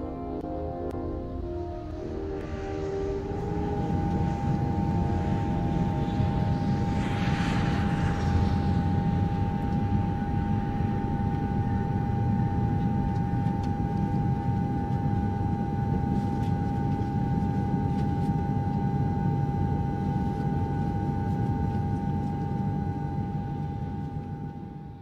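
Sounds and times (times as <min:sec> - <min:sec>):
aircraft engine rumble and whine: 0:00.0 - 0:25.0.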